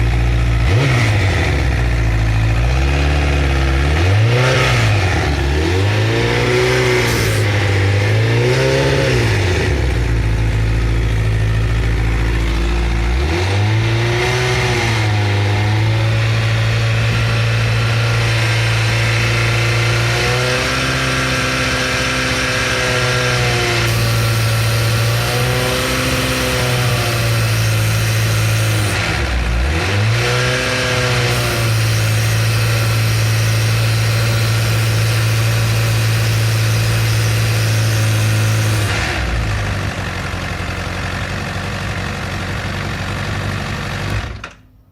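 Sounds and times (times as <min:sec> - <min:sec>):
motorcycle engine revving: 0:00.0 - 0:44.6.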